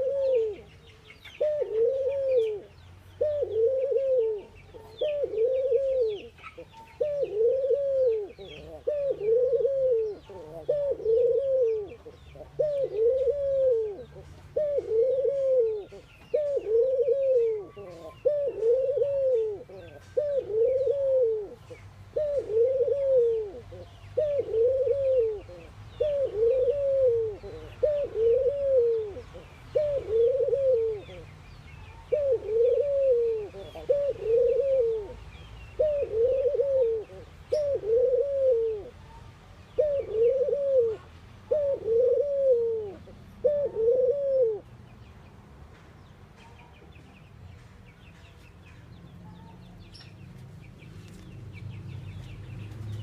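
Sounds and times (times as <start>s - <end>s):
dove cooing: 0.0s - 44.7s
small birds chirping: 0.0s - 53.0s.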